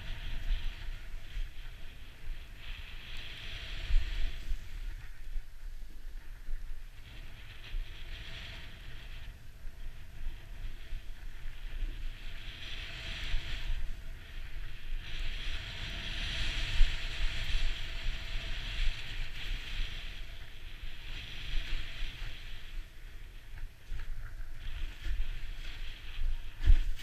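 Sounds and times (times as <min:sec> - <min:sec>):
snowboard hissing through snow: 0:00.0 - 0:05.5, 0:07.0 - 0:27.0
wind buffeting microphone: 0:00.0 - 0:27.0.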